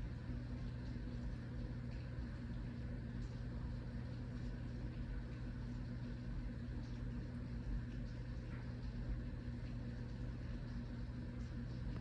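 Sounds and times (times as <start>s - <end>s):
constant low hum: 0.0s - 12.0s
steady rain falling: 0.2s - 12.0s.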